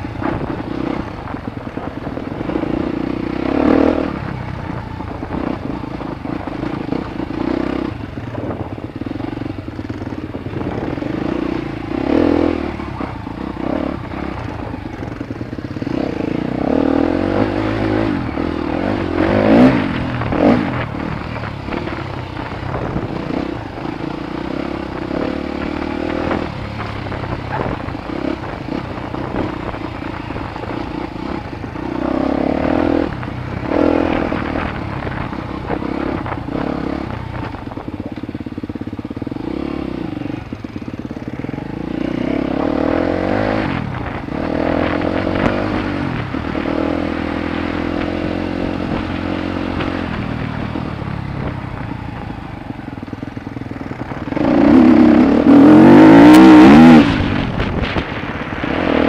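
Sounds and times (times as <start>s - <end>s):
clatter and scraping of bike: 0.0s - 59.0s
dirt bike engine revving: 0.0s - 59.0s.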